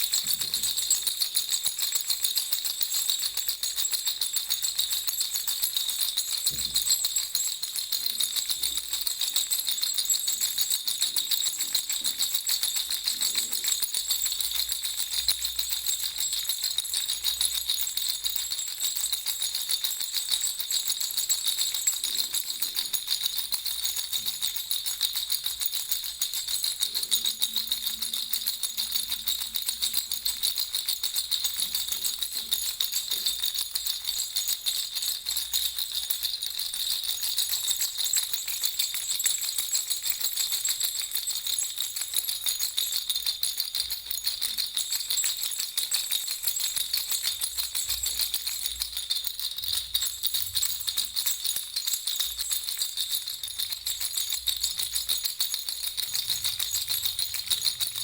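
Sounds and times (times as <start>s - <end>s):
baby rattle bells jingling: 0.0s - 58.0s.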